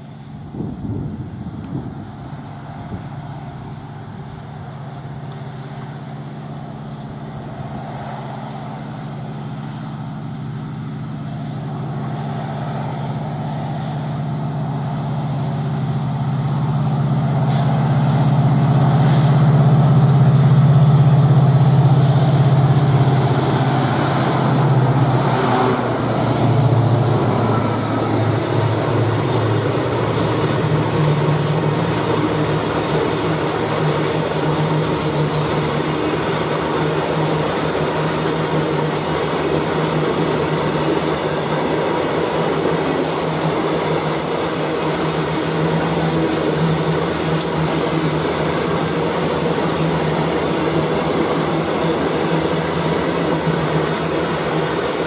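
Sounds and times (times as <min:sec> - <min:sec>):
diesel locomotive engines droning: 0:00.0 - 0:55.0.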